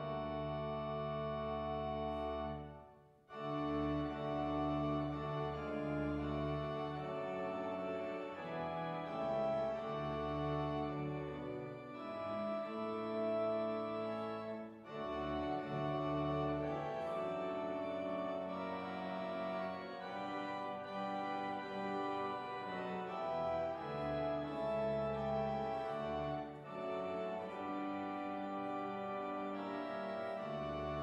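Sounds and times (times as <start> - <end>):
church organ chords: 0.0 - 31.0.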